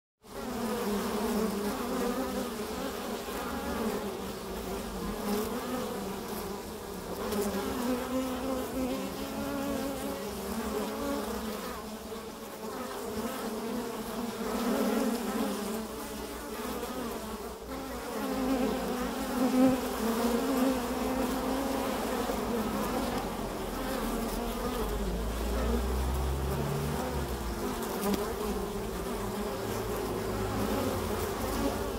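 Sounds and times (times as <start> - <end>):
bees buzzing: 0.2 - 31.9.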